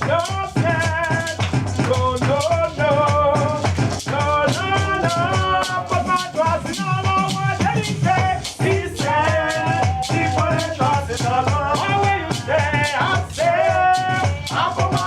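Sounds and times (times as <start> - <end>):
church praise music: 0.0 - 15.0
shaker beat: 0.0 - 15.0.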